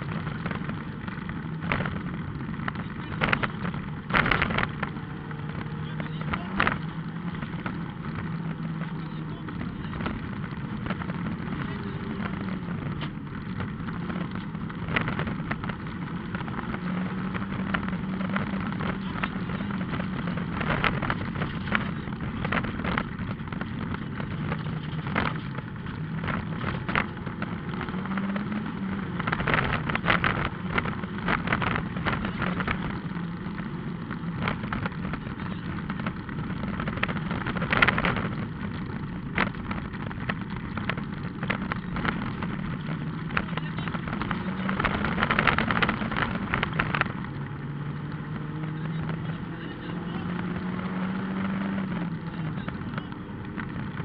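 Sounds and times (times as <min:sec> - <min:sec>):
car knocking and rattling on gravel: 0:00.0 - 0:54.0
rally car engine running: 0:00.0 - 0:54.0.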